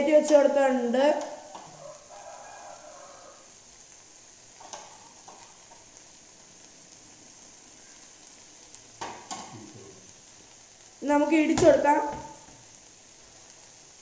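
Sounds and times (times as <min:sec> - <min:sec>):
chicken sizzling on a griddle: 0:00.0 - 0:14.0.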